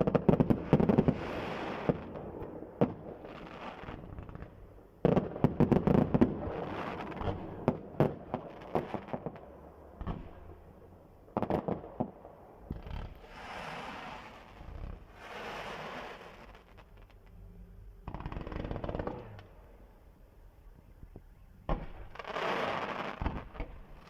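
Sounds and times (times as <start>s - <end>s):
fireworks cracking and banging: 0.0s - 10.6s, 11.3s - 17.3s, 18.0s - 19.5s, 21.7s - 24.0s.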